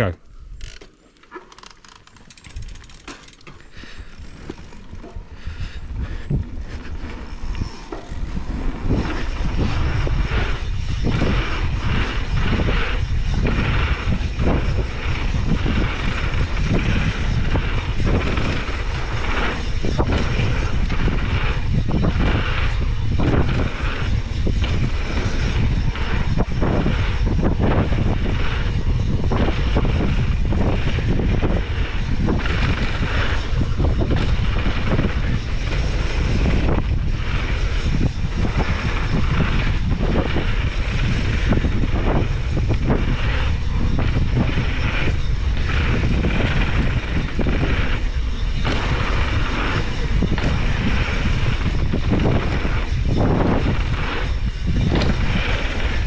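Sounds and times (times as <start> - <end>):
bike knocks and rattles: 0.6 - 5.5, 6.3 - 56.0
tyres rolling on dirt: 0.8 - 56.0
wind rumble on microphone: 1.8 - 56.0.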